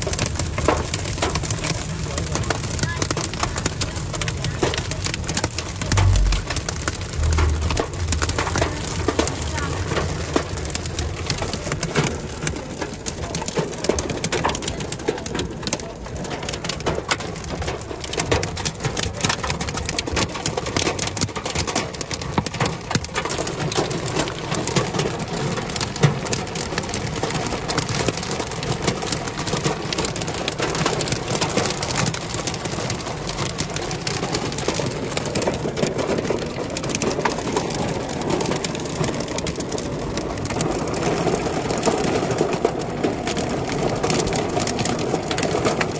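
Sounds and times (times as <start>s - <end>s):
hail and rain pelting a car: 0.0s - 45.9s.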